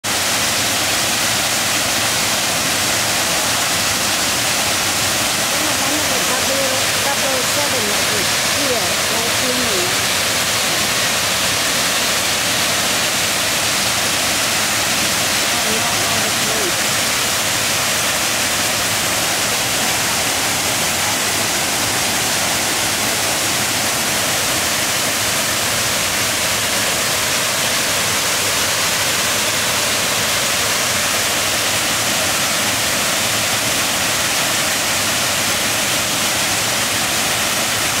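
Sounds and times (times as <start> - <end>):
waterfall rushing into pool: 0.0 - 38.0.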